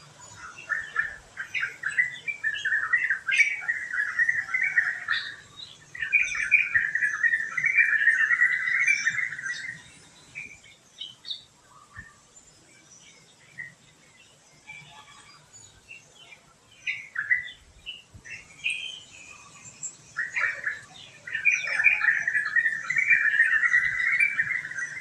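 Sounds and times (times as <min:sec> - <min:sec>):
songbird chattering: 0:00.2 - 0:12.1, 0:13.0 - 0:25.0.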